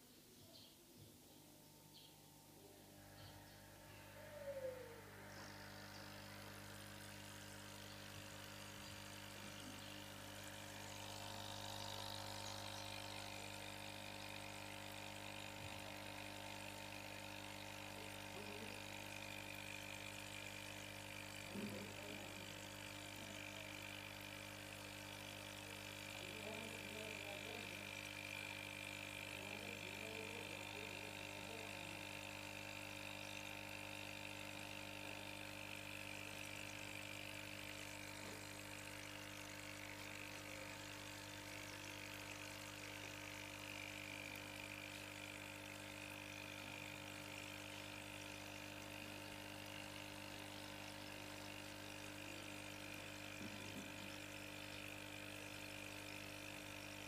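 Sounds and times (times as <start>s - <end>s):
aquarium pump hum: 0.0s - 57.0s
water moving in tank: 3.3s - 56.9s.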